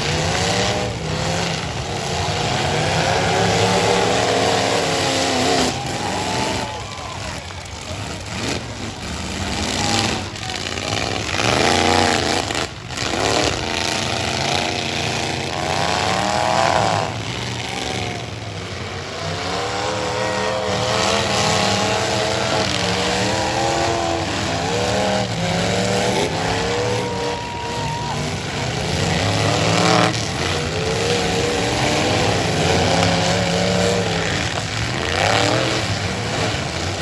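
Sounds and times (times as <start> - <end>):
truck engines revving: 0.0 - 37.0.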